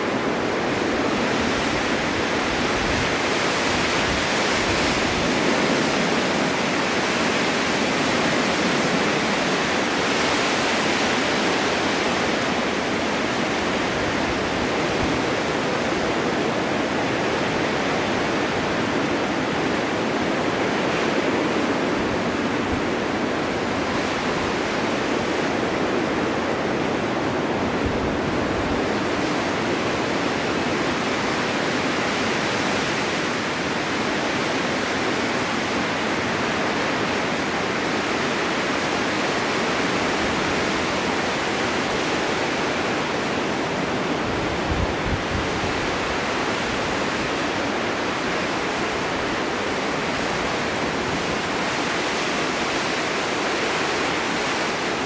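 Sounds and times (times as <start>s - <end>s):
snowstorm wind hissing: 0.0s - 55.0s.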